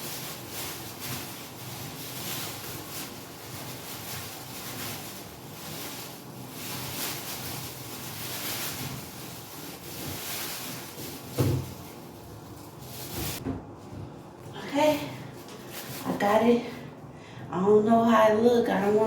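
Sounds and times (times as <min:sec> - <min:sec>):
rustling and handling noise: 0:00.0 - 0:17.0.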